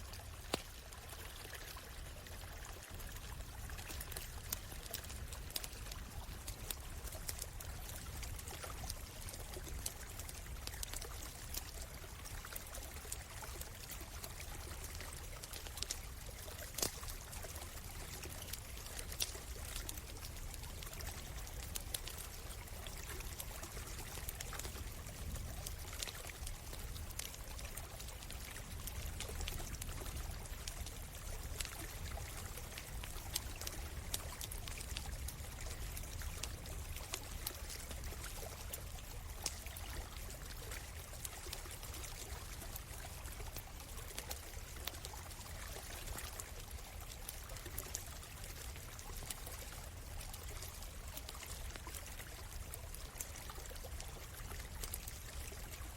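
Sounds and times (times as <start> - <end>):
stream flowing: 0.0 - 55.9
campfire crackling and popping: 0.1 - 55.7.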